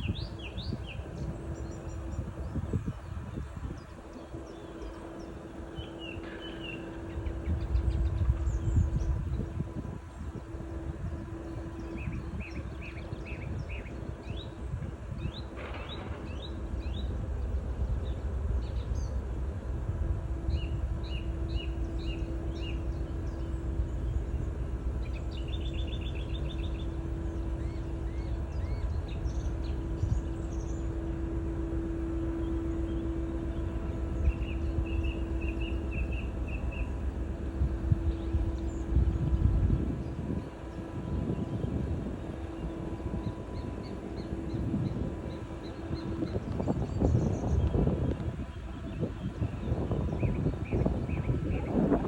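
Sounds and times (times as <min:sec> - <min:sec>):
boat engine drone: 0:00.0 - 0:52.0.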